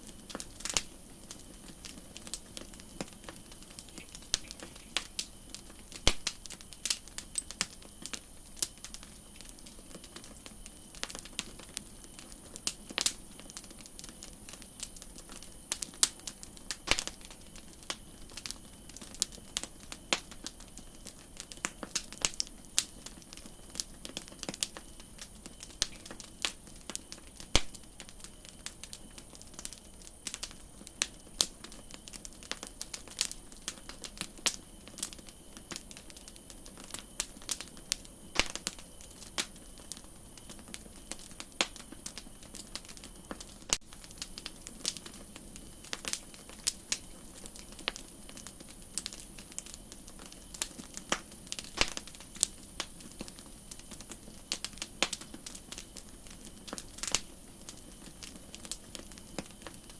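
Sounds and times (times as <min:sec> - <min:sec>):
campfire popping and snapping: 0:00.0 - 0:59.9
faint steady hiss: 0:00.0 - 0:59.9.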